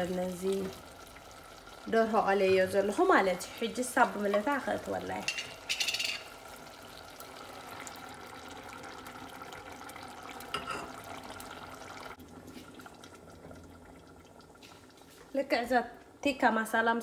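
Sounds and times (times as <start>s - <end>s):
food bubbling in saucepan: 0.0s - 16.8s.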